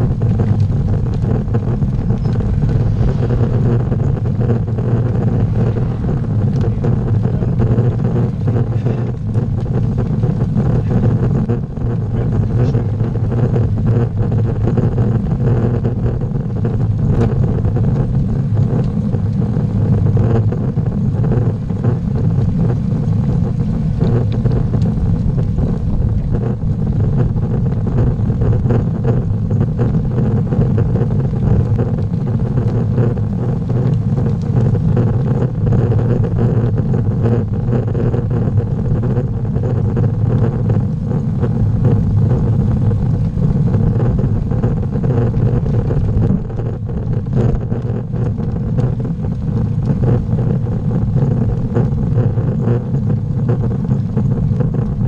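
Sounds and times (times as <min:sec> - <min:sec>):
wind and road noise rumble: 0:00.0 - 0:55.0.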